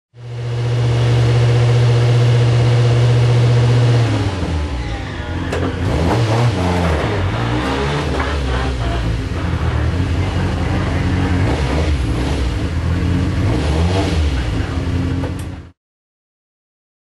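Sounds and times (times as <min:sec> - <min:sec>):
race car engine revving: 0:00.2 - 0:15.8.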